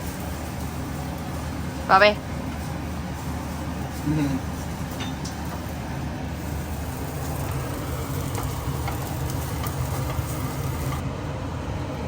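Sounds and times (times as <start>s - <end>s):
vegetables sizzling in a wok: 0.0s - 11.0s
low hum of kitchen stove: 0.0s - 12.0s.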